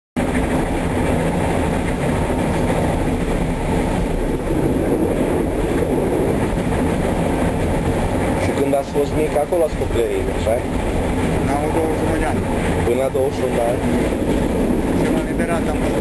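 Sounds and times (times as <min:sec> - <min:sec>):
train running rumble: 0:00.2 - 0:16.0.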